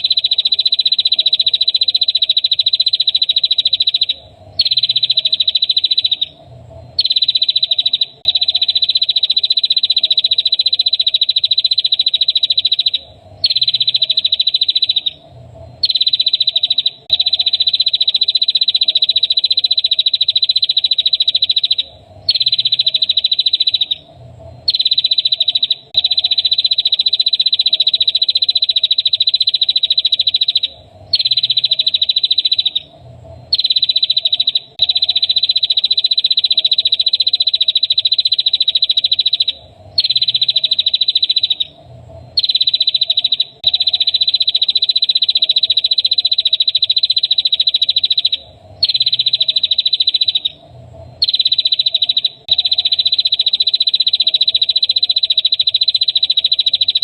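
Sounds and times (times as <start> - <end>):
songbird buzzy trill: 0.0 - 57.0.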